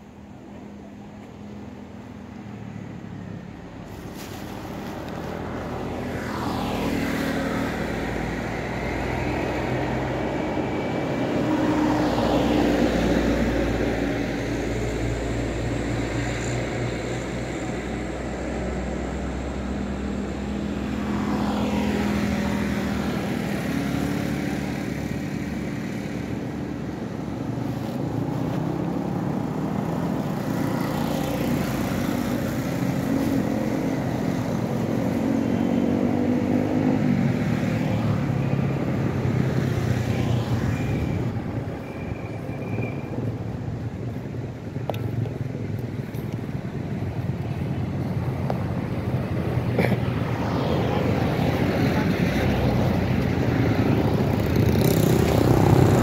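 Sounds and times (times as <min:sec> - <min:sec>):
vehicles passing by: 0:00.0 - 0:56.0.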